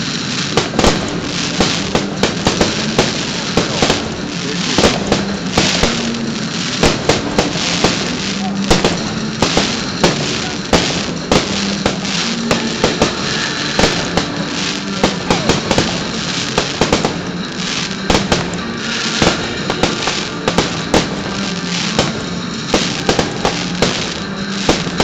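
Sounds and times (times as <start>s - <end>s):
fireworks bangs and crackle: 0.0s - 25.0s
music playing: 0.0s - 25.0s.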